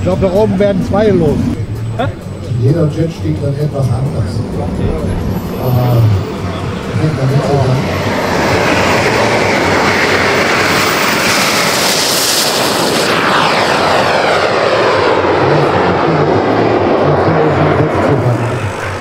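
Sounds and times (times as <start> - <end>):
model jet turbine roar: 0.0 - 19.0.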